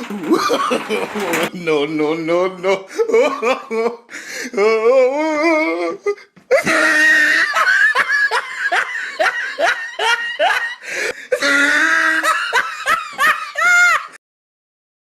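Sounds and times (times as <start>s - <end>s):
person laughing hard: 0.0s - 1.5s, 2.8s - 4.8s, 5.6s - 14.2s.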